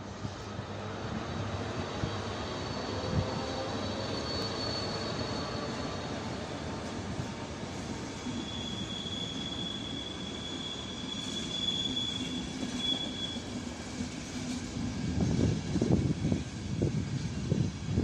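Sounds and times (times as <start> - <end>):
train coaches rumbling: 0.0 - 18.0
train wheels squealing: 1.3 - 18.0.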